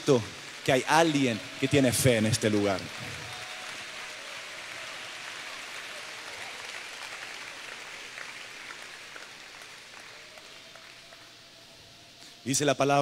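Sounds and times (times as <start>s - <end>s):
crowd applauding: 0.0s - 12.6s.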